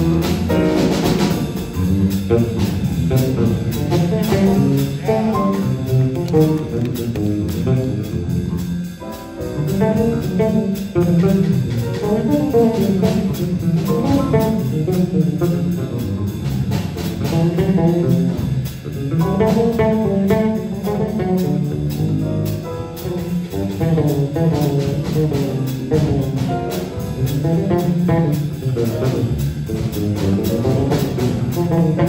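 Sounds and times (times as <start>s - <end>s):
bass: 0.0s - 32.0s
jazz guitar lead line: 0.0s - 32.0s.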